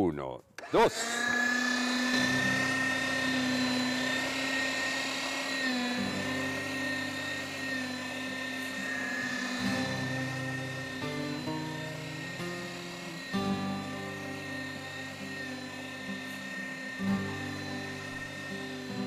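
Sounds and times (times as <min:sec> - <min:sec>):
meat grinder motor whine: 0:00.6 - 0:19.0.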